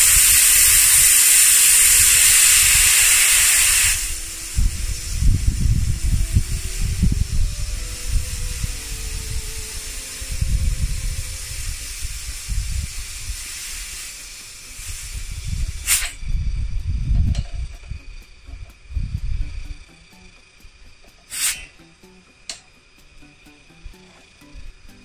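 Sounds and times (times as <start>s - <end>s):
low rumbling noise: 0.0s - 21.1s
compressed air hissing: 0.0s - 25.0s.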